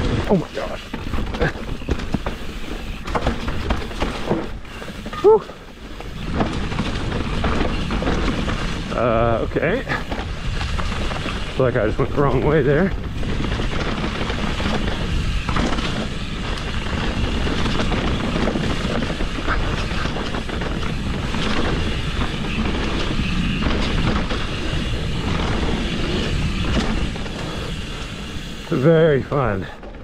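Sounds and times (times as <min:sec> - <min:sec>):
mountain bike rattling over rocks: 0:00.0 - 0:30.0.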